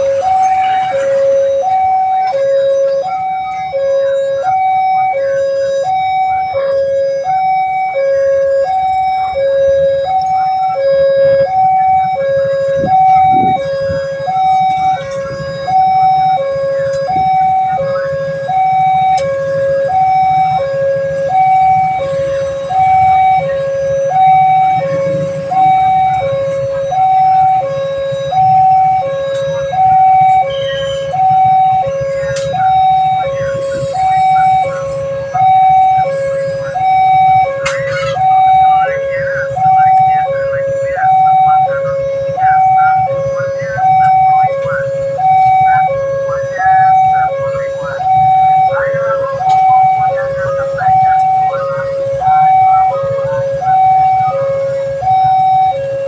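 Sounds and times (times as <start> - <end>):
two-tone warning siren: 0.0 - 56.0.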